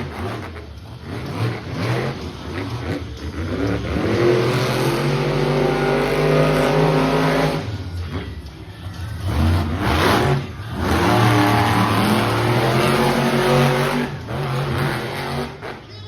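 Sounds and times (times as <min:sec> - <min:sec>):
truck engine revving hard: 0:00.0 - 0:08.2, 0:09.1 - 0:15.9.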